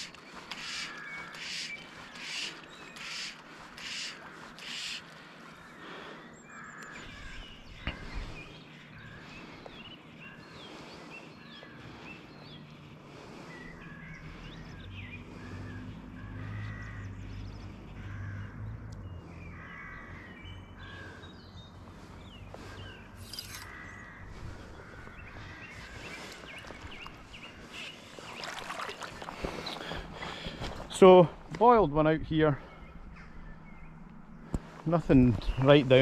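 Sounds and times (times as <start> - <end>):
birds calling: 0.0 - 36.0.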